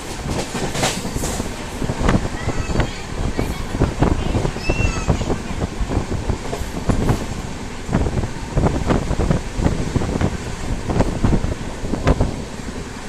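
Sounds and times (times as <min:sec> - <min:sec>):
wheels clacking and knocking: 0:00.0 - 0:12.5
train rumbling on track: 0:00.0 - 0:13.0.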